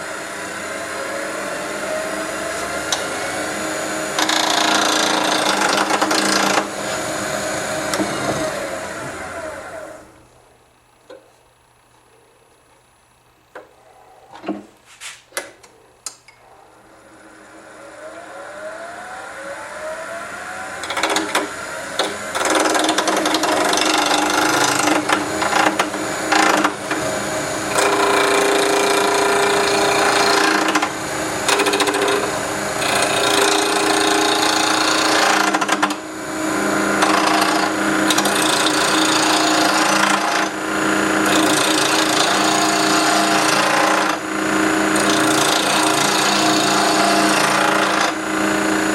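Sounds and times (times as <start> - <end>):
turning tool cutting wood: 0.0 - 10.2, 16.5 - 48.9
wood lathe whine and hum: 0.0 - 11.4, 16.4 - 48.9.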